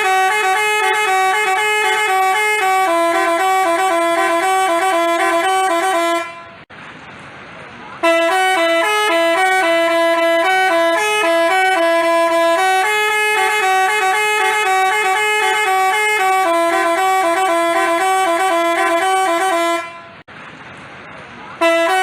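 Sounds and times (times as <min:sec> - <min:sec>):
bus horn melody: 0:00.0 - 0:06.7, 0:08.0 - 0:20.3, 0:21.6 - 0:22.0.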